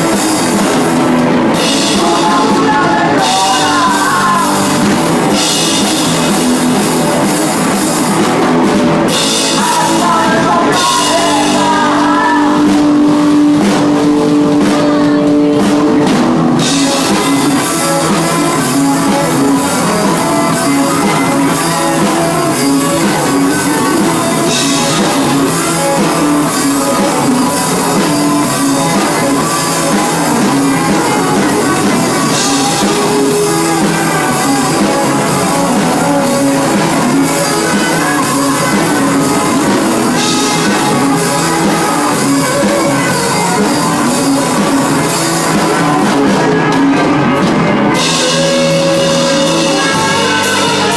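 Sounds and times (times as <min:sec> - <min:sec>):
bass guitar: 0:00.0 - 0:50.9
drum kit: 0:00.0 - 0:50.9
electric guitar: 0:00.0 - 0:50.9.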